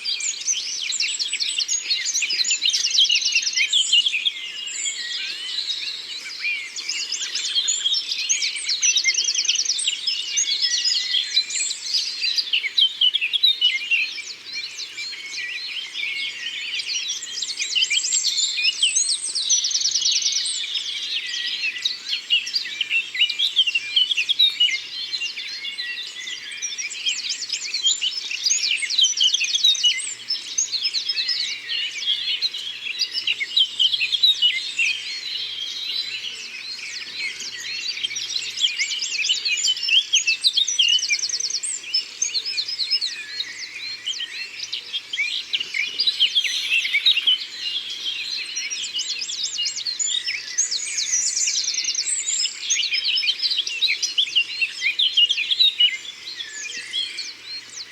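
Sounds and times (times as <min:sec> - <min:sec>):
songbirds chirping and whistling: 0:00.0 - 0:57.9.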